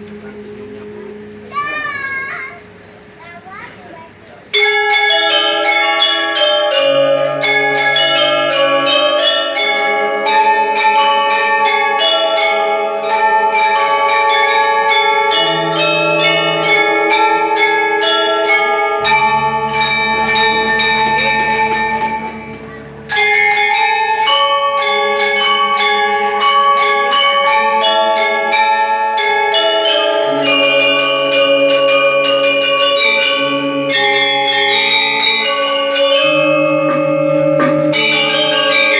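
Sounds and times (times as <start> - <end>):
held low bass notes: 0.0 - 3.2, 4.3 - 38.9
bell-like struck notes: 0.0 - 38.9.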